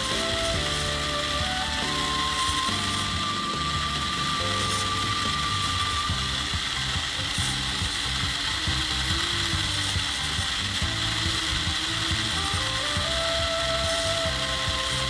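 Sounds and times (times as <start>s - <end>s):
small electric motor running: 0.0s - 15.0s.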